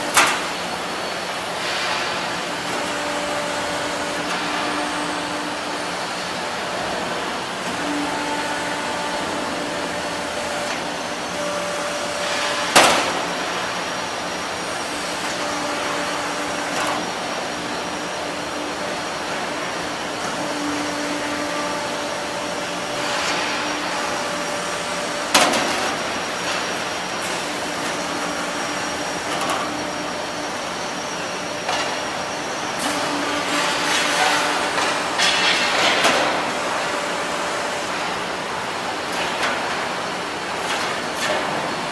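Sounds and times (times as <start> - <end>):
steady machine hum: 0.0 - 41.9.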